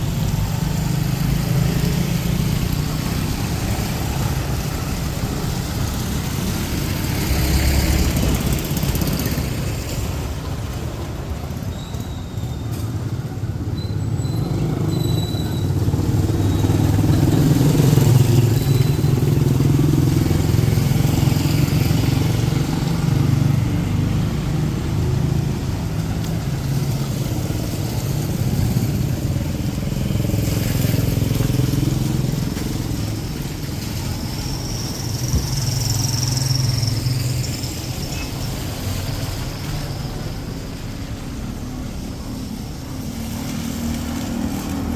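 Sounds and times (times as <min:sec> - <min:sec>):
motorcycle engines passing: 0:00.0 - 0:44.9
street traffic: 0:00.0 - 0:44.9.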